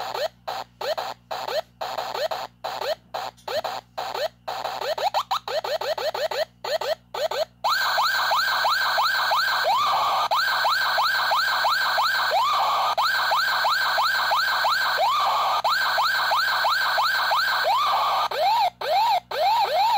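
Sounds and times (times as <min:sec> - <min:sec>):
looped electronic siren yelps: 0:00.0 - 0:19.9.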